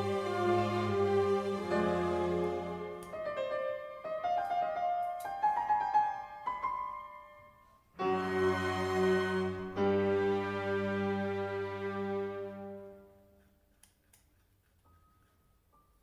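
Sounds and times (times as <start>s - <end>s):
piano music: 0.0s - 13.3s.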